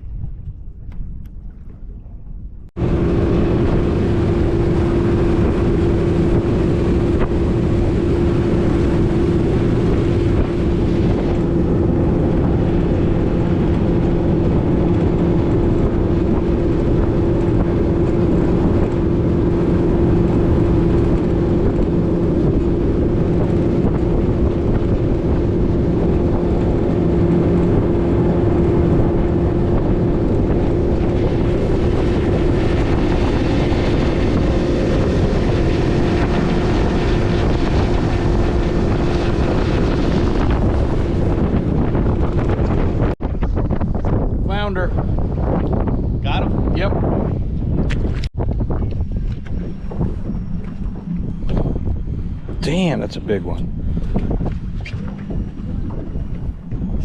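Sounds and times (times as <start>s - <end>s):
outboard motor running: 0.2s - 57.0s.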